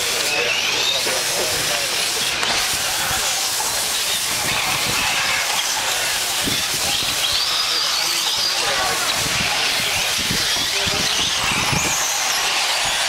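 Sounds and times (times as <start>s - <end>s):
small rc car engines whining: 0.0s - 13.0s
steady hiss: 0.0s - 13.0s.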